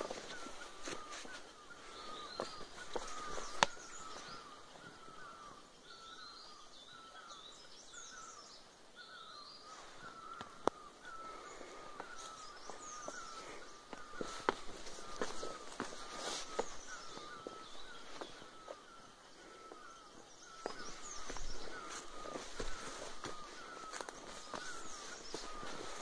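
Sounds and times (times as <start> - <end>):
bird chirps: 0.0 - 26.0.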